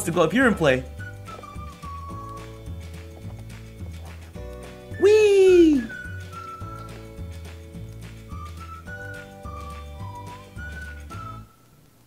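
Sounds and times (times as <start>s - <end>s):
light background music: 0.0s - 11.9s.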